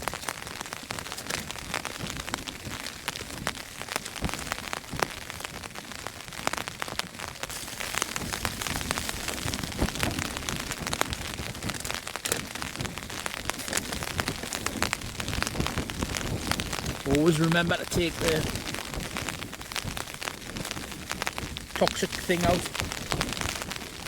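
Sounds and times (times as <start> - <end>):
heavy rain on tent fabric: 0.0 - 24.0
wind: 0.0 - 24.0.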